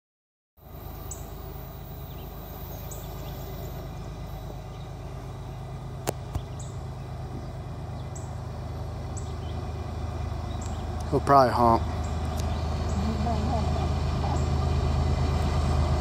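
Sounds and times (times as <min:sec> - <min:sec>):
diesel locomotive rumble: 0:00.6 - 0:16.0.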